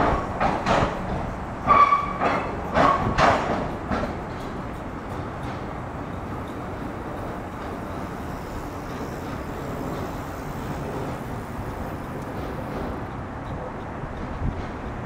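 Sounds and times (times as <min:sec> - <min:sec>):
road traffic: 0:00.0 - 0:15.0
tram rumbling along rails: 0:00.0 - 0:15.0.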